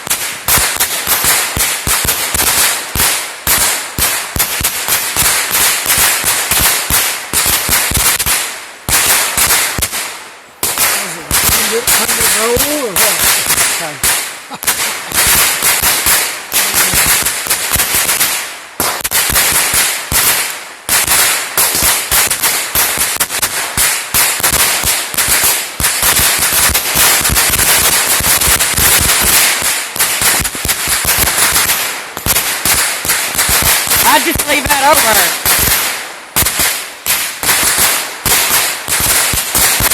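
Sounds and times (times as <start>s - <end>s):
firecrackers going off: 0.0s - 39.9s.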